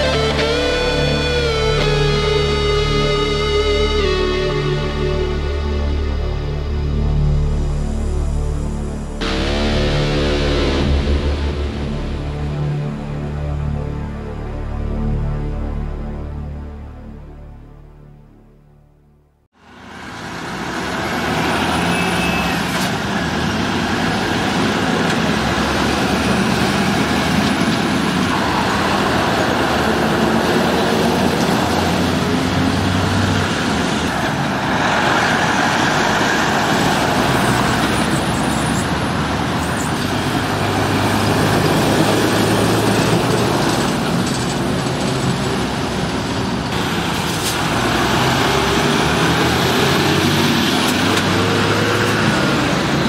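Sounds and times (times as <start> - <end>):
trucks driving: 0.0 - 15.5, 19.6 - 53.0
road traffic noise: 0.0 - 17.2, 19.4 - 53.0.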